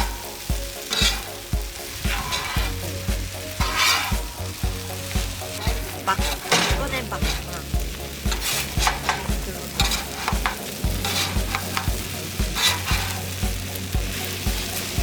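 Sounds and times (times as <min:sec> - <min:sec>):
background music with low beat: 0:00.0 - 0:15.0
food sizzling: 0:00.0 - 0:15.0
spatula scraping a griddle: 0:00.0 - 0:15.0.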